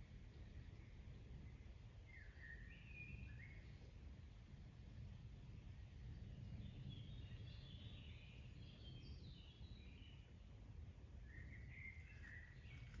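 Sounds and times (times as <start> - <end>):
low rumble of background noise: 0.0 - 13.0.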